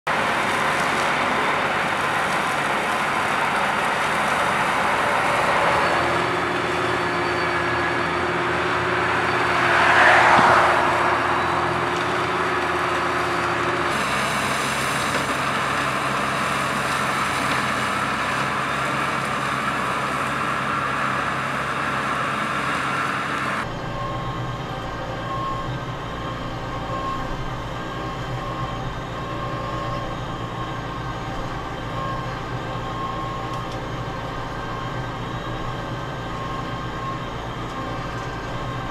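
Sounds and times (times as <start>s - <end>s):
tractor engines running: 0.0s - 38.9s
engine hum inside cab: 0.1s - 38.9s
mowing heads cutting grass: 0.1s - 38.9s.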